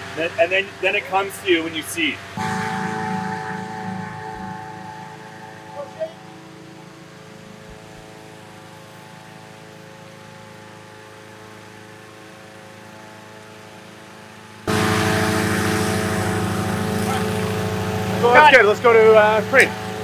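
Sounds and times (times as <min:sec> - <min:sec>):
engine humming: 0:00.0 - 0:20.0
loud engine rumble: 0:00.0 - 0:20.0.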